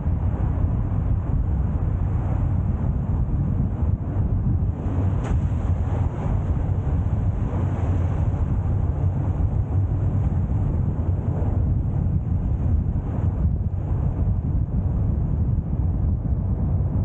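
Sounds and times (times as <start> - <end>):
car engine and tyres rumbling: 0.0 - 16.8.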